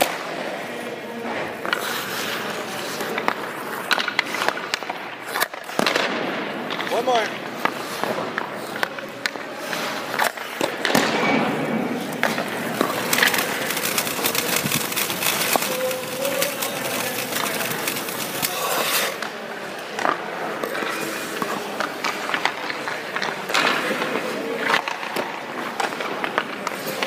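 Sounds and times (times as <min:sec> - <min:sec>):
stick and puck clacks: 0:00.0 - 0:00.6, 0:01.2 - 0:27.0
skates scraping on ice: 0:00.0 - 0:27.0.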